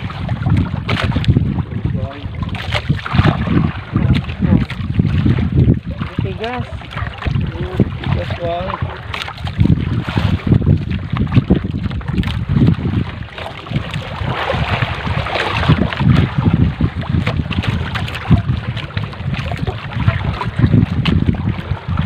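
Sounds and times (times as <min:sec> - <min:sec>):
water lapping at hull: 0:00.0 - 0:22.0
water splashing and dripping: 0:00.0 - 0:22.0
wind buffeting microphone: 0:00.0 - 0:22.0.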